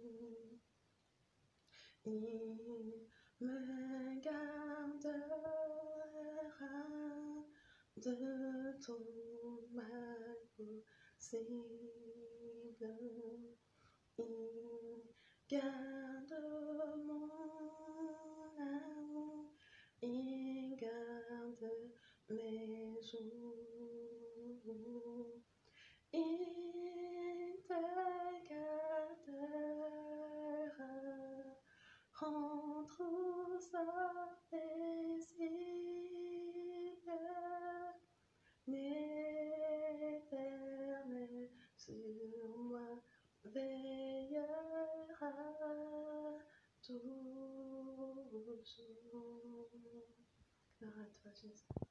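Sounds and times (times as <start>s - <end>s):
woman singing a hymn: 0.0s - 0.6s, 2.0s - 25.5s, 26.1s - 50.2s.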